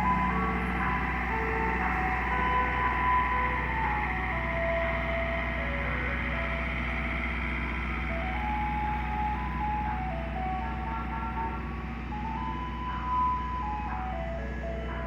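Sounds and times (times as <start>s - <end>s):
ice cream truck chime jingle: 0.0s - 15.0s
truck engine hum: 0.0s - 15.0s.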